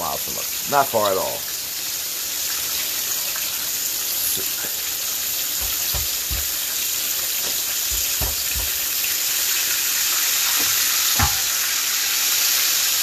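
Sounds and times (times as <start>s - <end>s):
steaks sizzling in oil: 0.0s - 13.0s.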